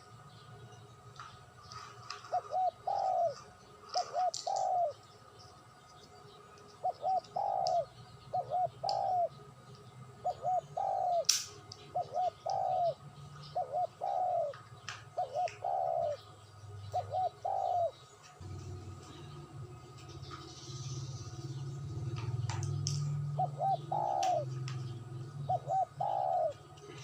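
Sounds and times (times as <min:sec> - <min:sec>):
low steady hum: 0:00.0 - 0:27.0
dove cooing: 0:01.7 - 0:05.1, 0:06.8 - 0:09.4, 0:10.2 - 0:19.3, 0:20.2 - 0:27.0.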